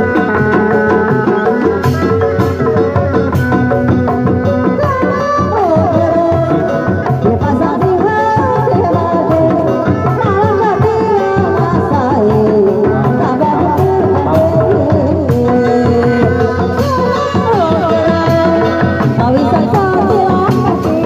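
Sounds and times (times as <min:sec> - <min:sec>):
hand drums beating: 0:00.0 - 0:21.0
person singing wavering melody: 0:00.0 - 0:21.0.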